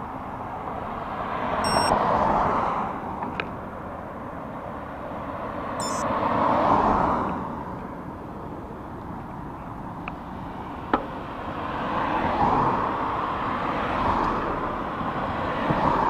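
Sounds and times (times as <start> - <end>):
steady background traffic: 0.0 - 16.0
vehicles passing close by: 0.0 - 16.0.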